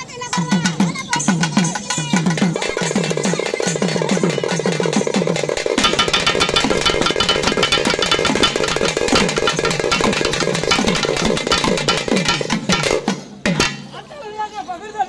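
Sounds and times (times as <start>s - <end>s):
barrel drums playing fast: 0.0s - 14.0s.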